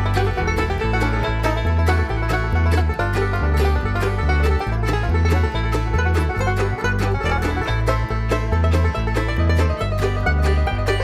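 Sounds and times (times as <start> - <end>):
upbeat music with plucked strings: 0.0 - 11.0.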